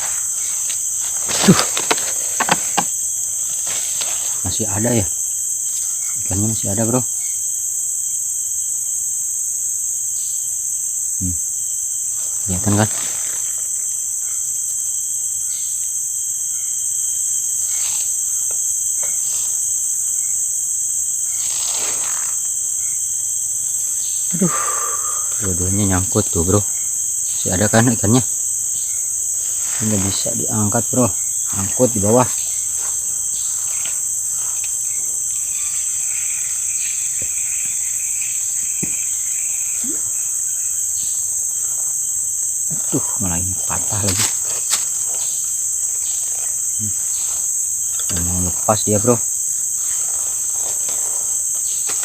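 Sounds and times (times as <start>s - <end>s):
insects chorus drone: 0.0s - 52.0s.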